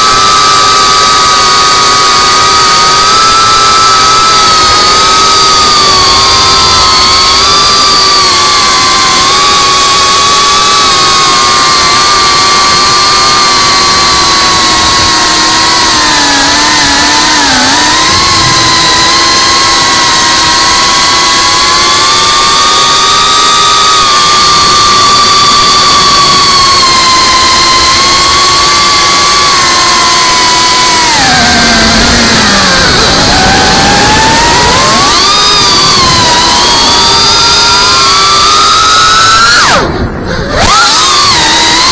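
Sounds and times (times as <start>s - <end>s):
drone motors whining: 0.0s - 41.9s
steady rushing noise: 0.0s - 41.9s.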